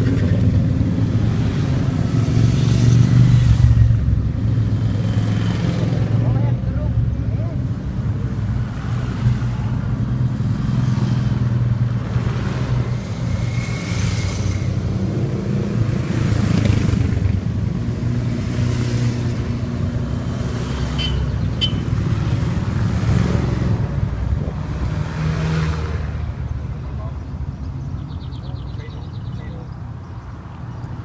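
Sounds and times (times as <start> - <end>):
motorcycles riding past: 0.0 - 28.7.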